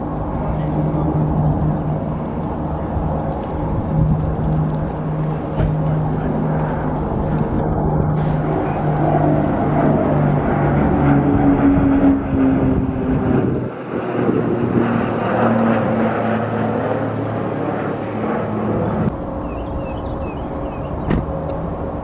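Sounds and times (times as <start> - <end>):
propeller plane flying overhead: 0.0 - 22.0.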